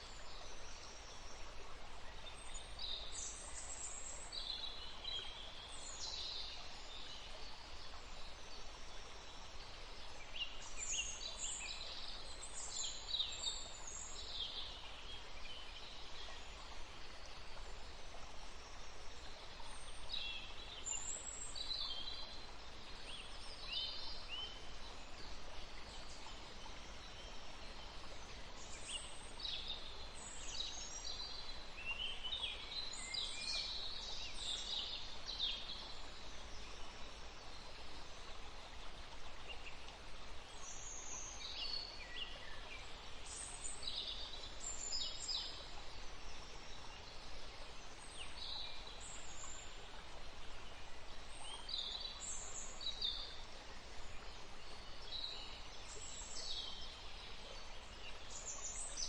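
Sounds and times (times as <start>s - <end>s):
songbirds chirping: 0.0s - 59.0s
steady background hiss: 0.0s - 59.0s.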